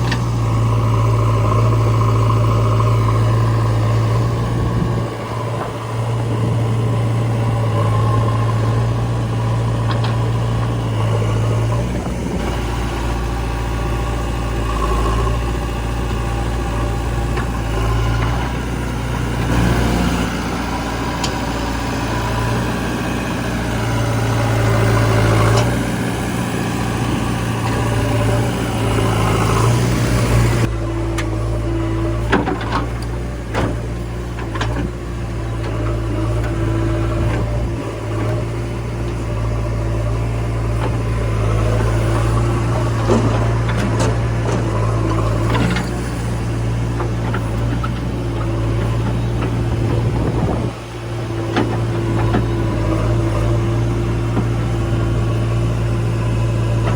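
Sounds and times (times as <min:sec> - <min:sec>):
heavy diesel engine running: 0:00.0 - 0:56.9.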